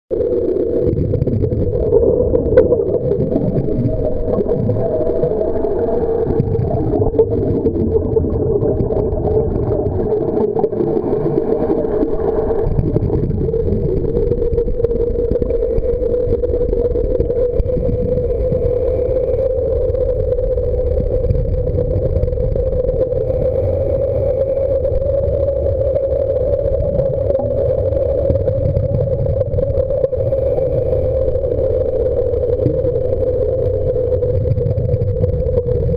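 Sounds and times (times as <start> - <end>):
underwater motor hum: 0.1 - 35.9.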